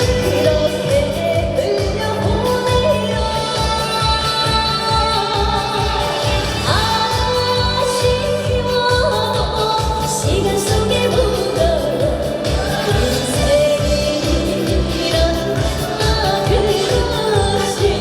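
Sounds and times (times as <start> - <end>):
trot song with singing: 0.0 - 18.0.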